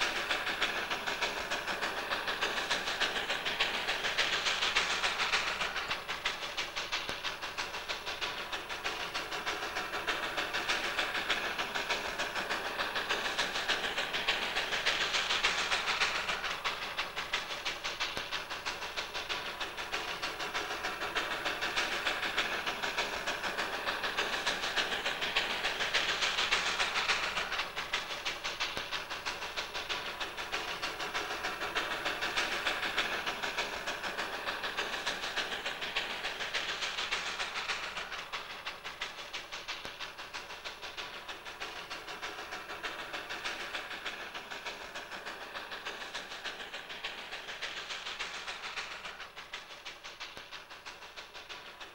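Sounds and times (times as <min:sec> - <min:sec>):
steam hiss: 0:00.0 - 0:51.9
steam locomotive exhaust chuffing: 0:00.0 - 0:51.9.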